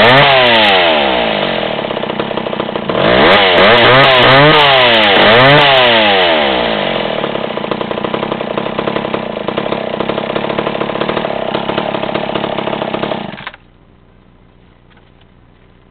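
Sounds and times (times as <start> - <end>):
chainsaw revving and idling: 0.0 - 13.6.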